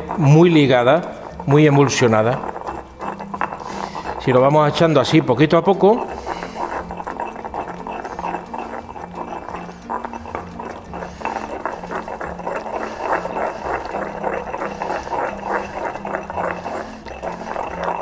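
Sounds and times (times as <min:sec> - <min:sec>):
stone pestle grinding wet paste: 0:00.0 - 0:18.0.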